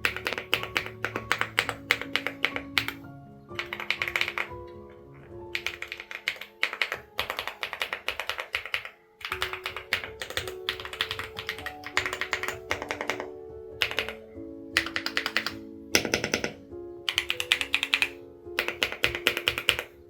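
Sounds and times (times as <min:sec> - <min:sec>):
mechanical keyboard typing: 0:00.0 - 0:03.0, 0:03.6 - 0:20.0
background music: 0:00.0 - 0:20.0.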